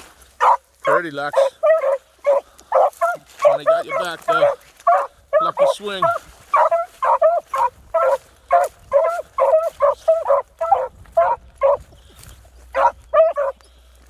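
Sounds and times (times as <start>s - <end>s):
dogs baying: 0.3s - 13.8s.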